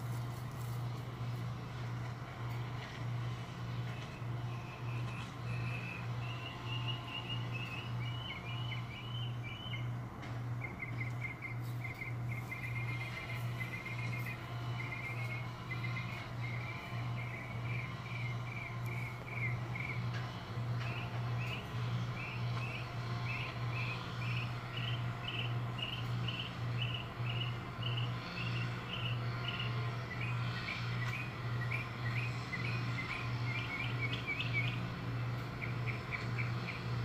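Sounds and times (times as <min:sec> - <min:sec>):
steady low hum: 0:00.0 - 0:37.0
bird chirping: 0:04.6 - 0:09.9, 0:10.6 - 0:20.1, 0:20.8 - 0:34.8, 0:35.5 - 0:36.9.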